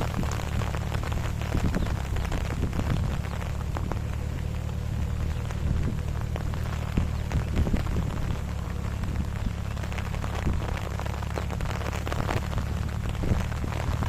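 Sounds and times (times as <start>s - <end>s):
low hum: 0.0s - 14.0s
water splashing and dripping: 0.0s - 14.0s.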